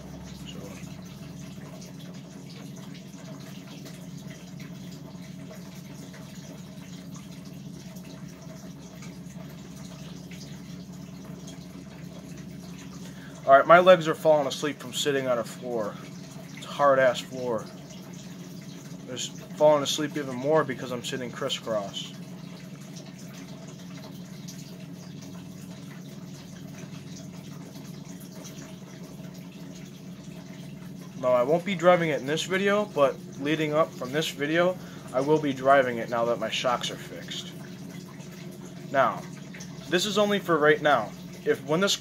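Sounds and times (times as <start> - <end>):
electric fan humming: 0.0 - 42.0.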